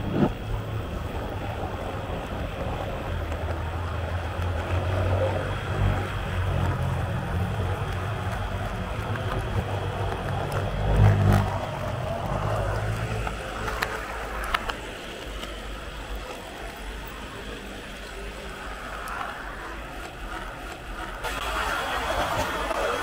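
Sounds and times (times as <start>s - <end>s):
model train motor whirring: 0.0s - 23.0s
wheels rumbling on rails: 0.0s - 23.0s.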